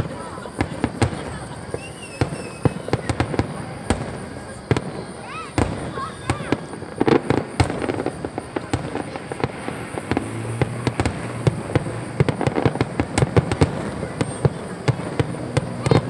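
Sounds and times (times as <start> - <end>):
fireworks popping and banging: 0.0 - 16.0.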